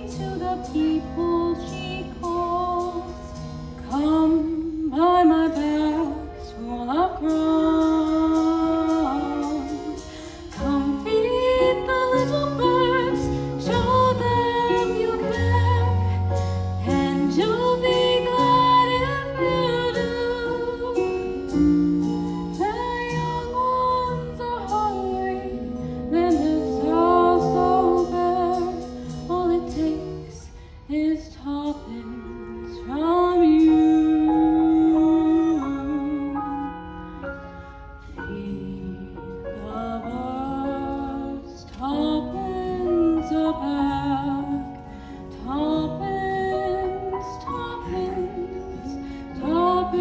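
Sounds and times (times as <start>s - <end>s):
instrumental accompaniment: 0.0s - 50.0s
woman singing: 0.0s - 50.0s.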